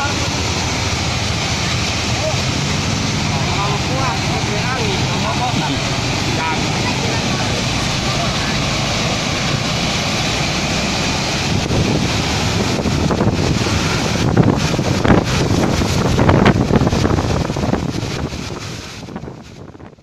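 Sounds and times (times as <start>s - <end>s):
landslide roar: 0.0s - 20.0s
wind on microphone: 0.0s - 20.0s.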